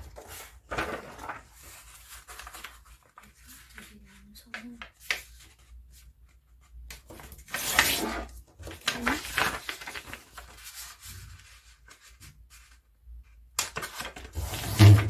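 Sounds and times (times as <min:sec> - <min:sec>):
paper rustling and crinkling: 0:00.0 - 0:13.0, 0:13.6 - 0:15.0.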